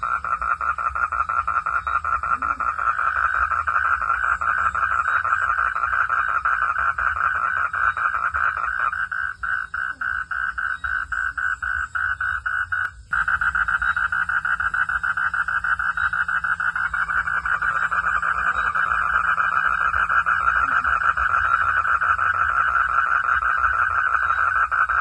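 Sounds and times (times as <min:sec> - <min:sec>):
frogs calling in chorus: 0:00.0 - 0:25.0.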